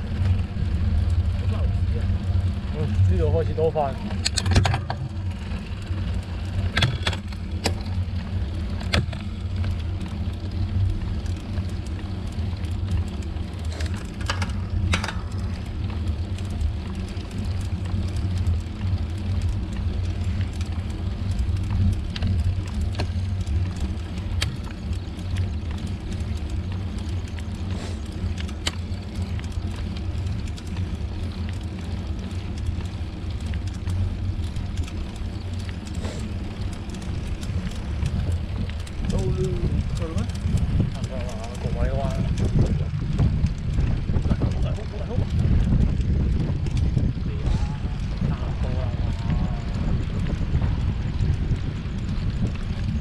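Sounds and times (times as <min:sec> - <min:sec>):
low wind rumble: 0:00.0 - 0:53.0
road noise: 0:00.0 - 0:53.0
sharp clicks or rattles: 0:03.3 - 0:53.0.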